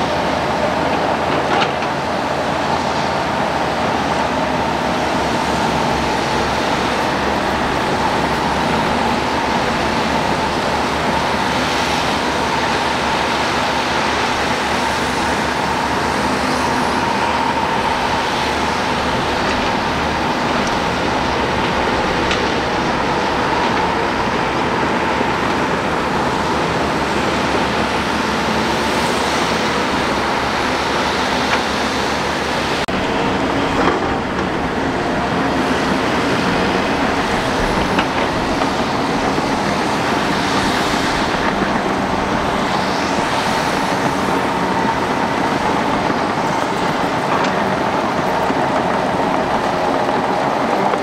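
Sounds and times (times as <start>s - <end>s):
excavator diesel engines droning: 0.0s - 51.0s.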